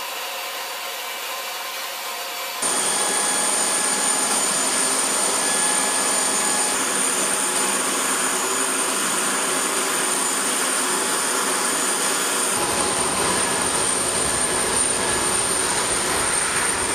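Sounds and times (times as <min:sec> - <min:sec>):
constant high-pitched tone: 0:02.6 - 0:16.9
jet engine whine: 0:02.6 - 0:16.9.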